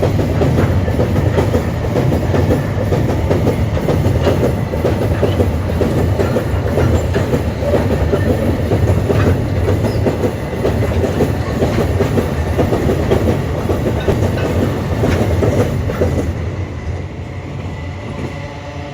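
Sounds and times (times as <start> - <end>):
train wheels clattering over rail joints: 0.0 - 16.4.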